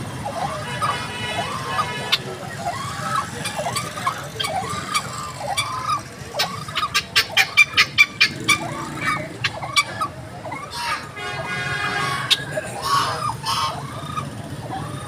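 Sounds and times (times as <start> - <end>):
fowl calling: 0.0 - 15.0
low street noise: 0.0 - 15.0.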